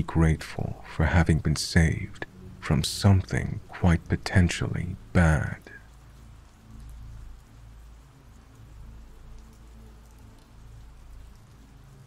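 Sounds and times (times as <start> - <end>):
rain hissing: 0.0 - 12.0
raindrop ticks: 0.0 - 12.0.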